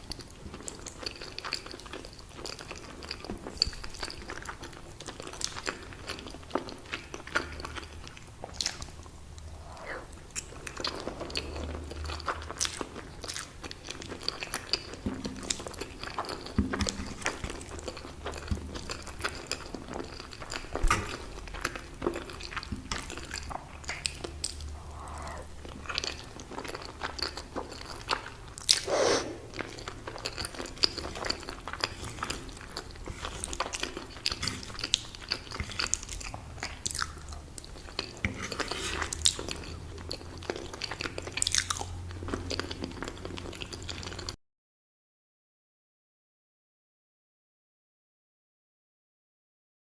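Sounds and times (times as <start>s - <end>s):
person chewing food: 0.0s - 44.4s.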